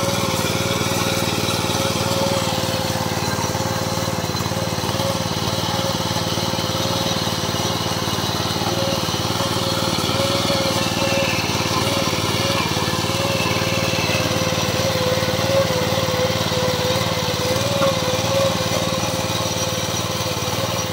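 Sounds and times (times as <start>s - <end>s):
power weeder engine running: 0.0s - 20.9s
rotary tines tilling dry soil: 0.0s - 20.9s.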